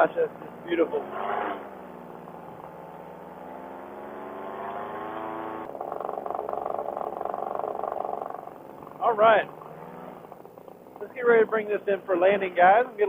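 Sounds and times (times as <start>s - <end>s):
paramotor engine and propeller: 0.0s - 13.0s.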